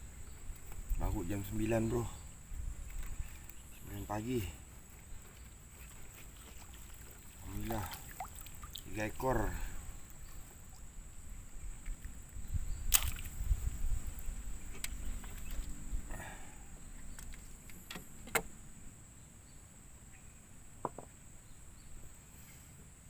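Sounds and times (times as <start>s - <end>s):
high insect drone: 0.0s - 22.7s.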